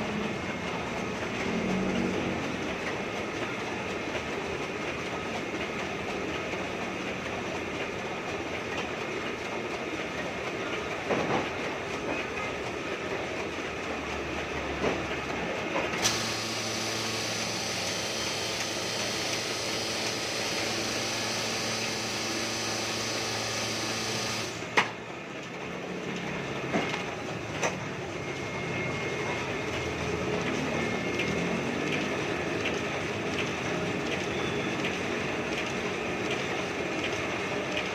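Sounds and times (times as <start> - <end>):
printing press running: 0.0 - 37.9.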